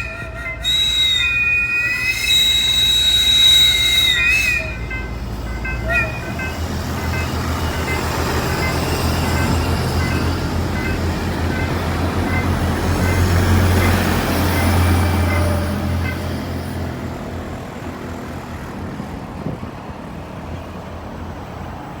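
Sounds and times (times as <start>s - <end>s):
train passing rumble: 0.0s - 22.0s.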